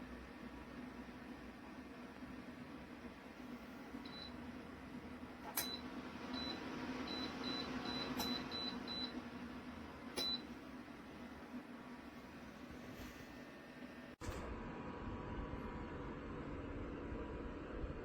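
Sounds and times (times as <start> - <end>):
heater fan running: 0.0 - 18.0.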